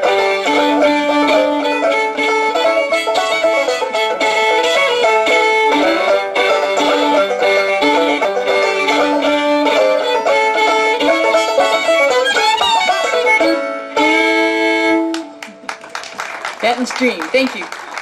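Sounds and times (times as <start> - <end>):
fiddle and banjo duet: 0.0 - 15.8.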